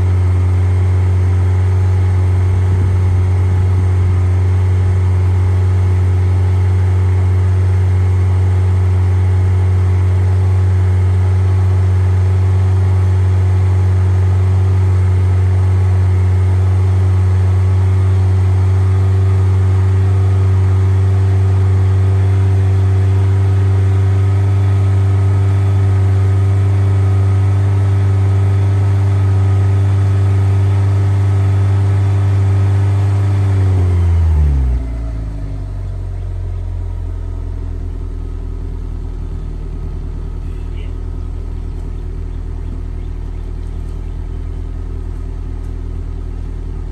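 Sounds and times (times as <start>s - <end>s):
car engine running: 0.0s - 46.9s.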